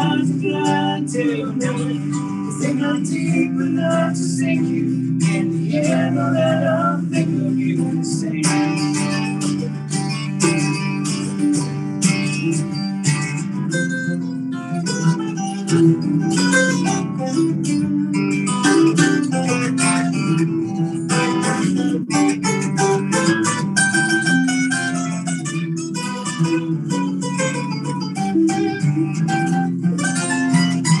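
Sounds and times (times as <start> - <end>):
guitar strummed and picked: 0.0 - 31.0.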